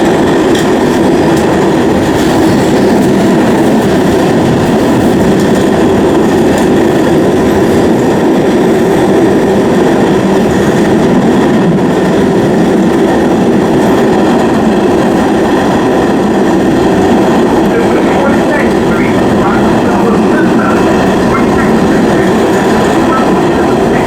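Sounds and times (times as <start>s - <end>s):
subway train rumbling on rails: 0.0s - 24.0s.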